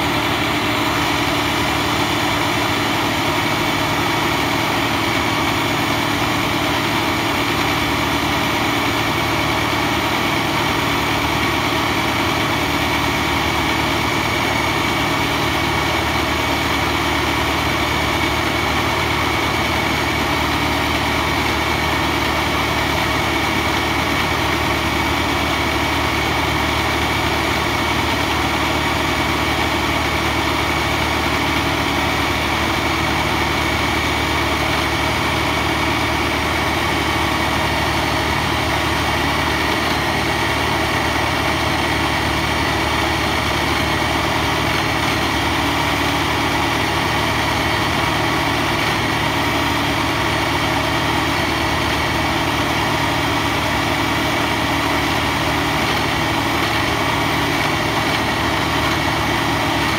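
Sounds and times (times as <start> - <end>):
core drill boring into concrete: 0.0 - 59.9.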